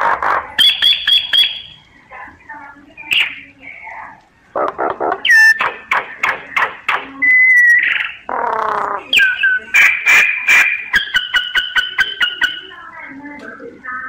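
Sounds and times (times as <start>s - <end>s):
mynas calling: 0.0s - 1.9s, 2.8s - 13.2s.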